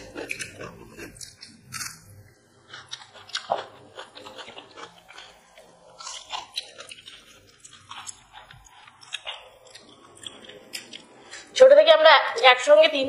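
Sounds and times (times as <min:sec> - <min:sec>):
people chewing and biting: 0:00.0 - 0:11.6.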